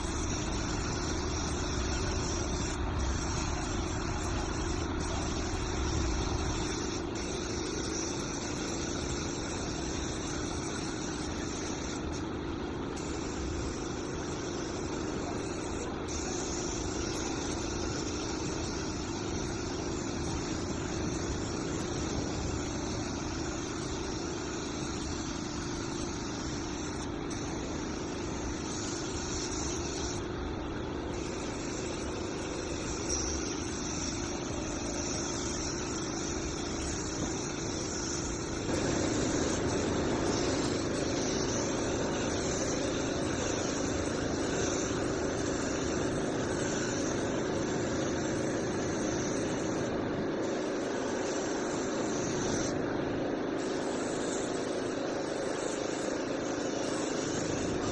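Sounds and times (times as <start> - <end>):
mechanical running noise with hiss: 0.0 - 57.9.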